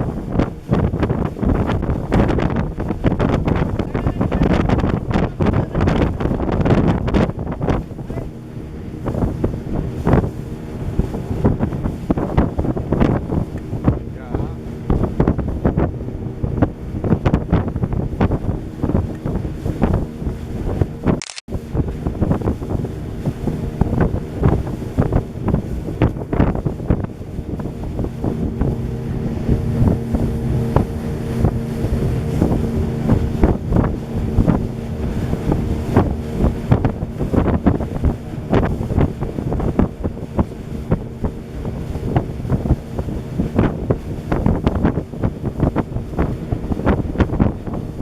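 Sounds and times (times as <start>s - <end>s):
motorboat engine droning: 0.0s - 48.0s
wind buffeting microphone: 0.0s - 48.0s.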